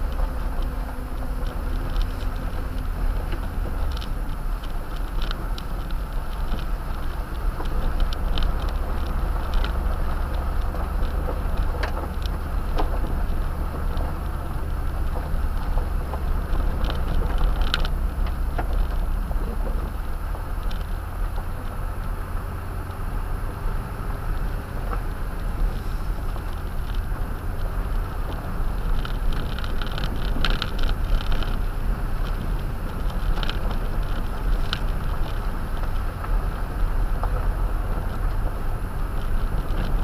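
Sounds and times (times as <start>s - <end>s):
truck engine and tyres rumbling: 0.0s - 40.0s.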